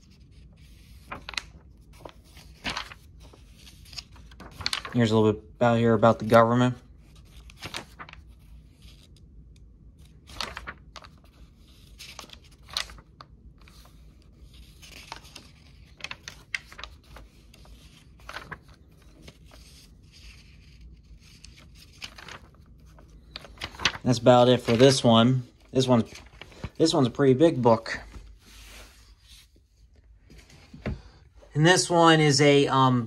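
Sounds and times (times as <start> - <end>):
book pages turning: 0.0 - 31.3.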